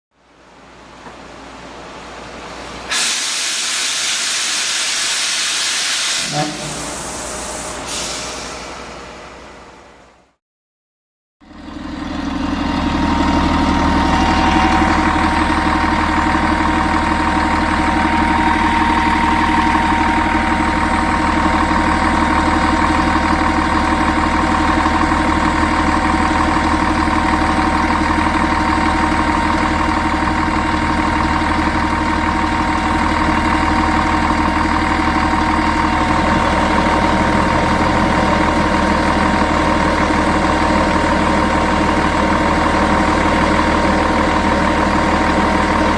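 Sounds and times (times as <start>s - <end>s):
diesel bus engine idling: 6.3s - 10.2s, 11.5s - 45.9s.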